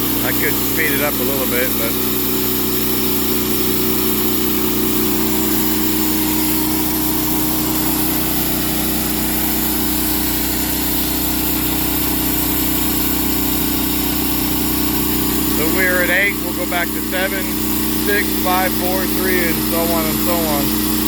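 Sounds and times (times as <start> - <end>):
sawmill cutting log: 0.0 - 21.0
sawmill engine running: 0.0 - 21.0.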